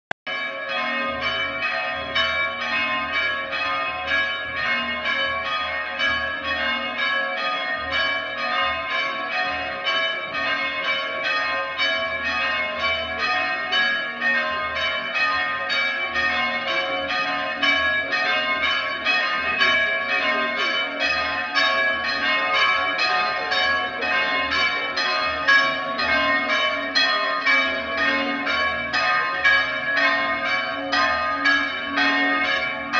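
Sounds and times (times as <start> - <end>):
church bells ringing a peal: 0.3 - 32.9.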